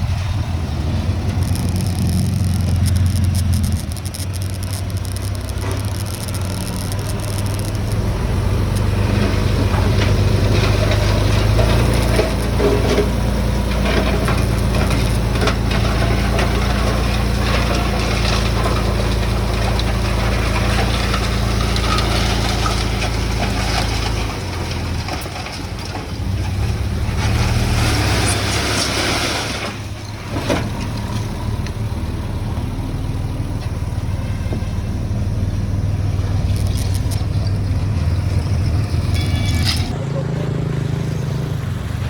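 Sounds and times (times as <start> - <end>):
heavy machinery diesel engine running: 0.0 - 42.0.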